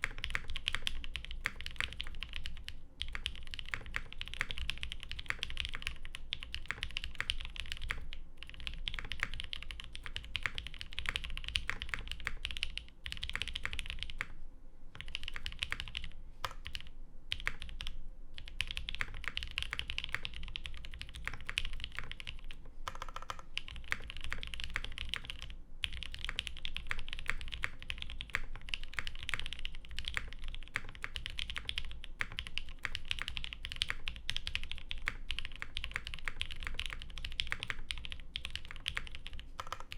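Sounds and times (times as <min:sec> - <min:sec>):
fast typing on mechanical keyboard: 0:00.0 - 0:14.3, 0:15.0 - 0:39.9.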